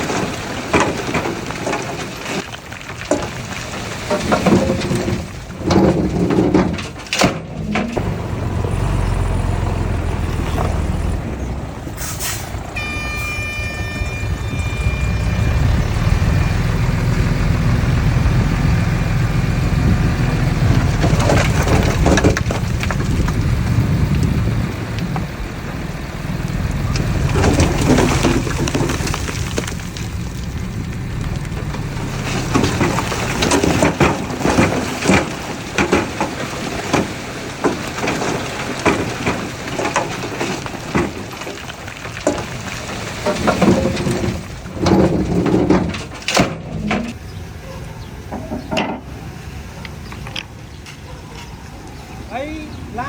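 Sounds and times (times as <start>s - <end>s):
soil and stones crunching: 0.0s - 47.2s
diesel machinery rumbling: 0.0s - 53.0s.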